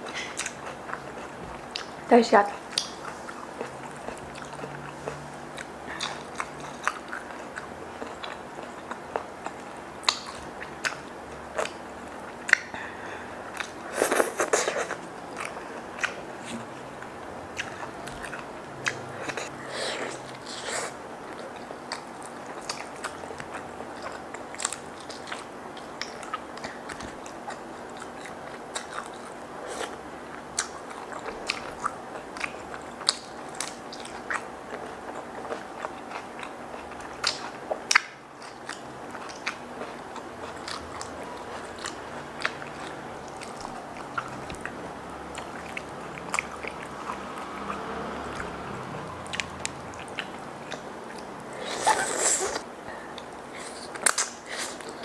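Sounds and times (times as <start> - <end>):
faint steady hum: 0.0 - 55.0
person chewing crunchy food: 0.0 - 55.0.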